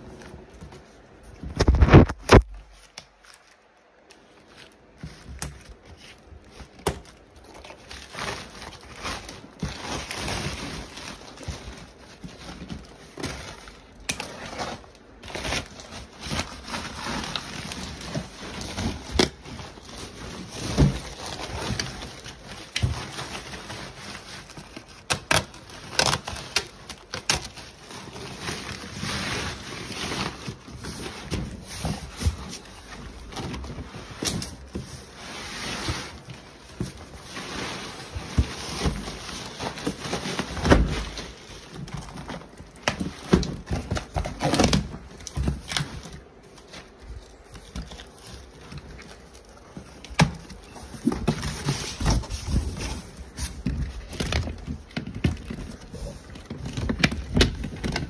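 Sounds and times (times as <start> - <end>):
plastic sacking rustling and crinkling: 0.0 - 58.0.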